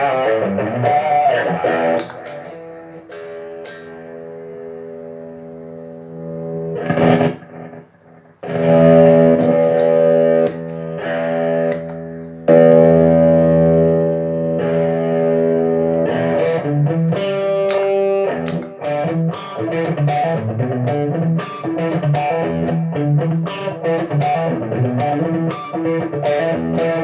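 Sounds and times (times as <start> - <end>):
electric guitar chords ringing: 0.0 - 27.0.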